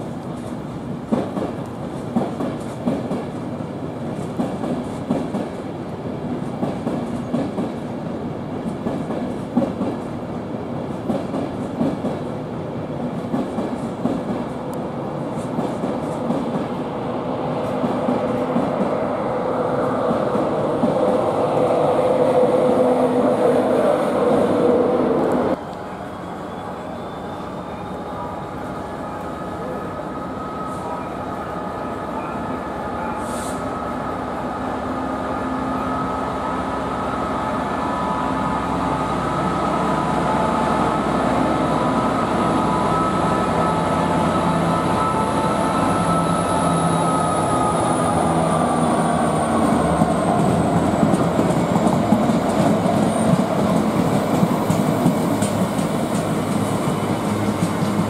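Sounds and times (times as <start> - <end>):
diesel locomotive engine: 0.0 - 58.0
express train passing: 0.0 - 58.0.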